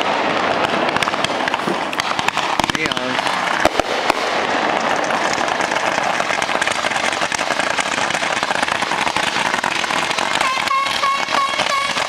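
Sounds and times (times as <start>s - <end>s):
fireworks crackling: 0.0s - 12.0s
sharp firework cracks: 0.0s - 12.0s.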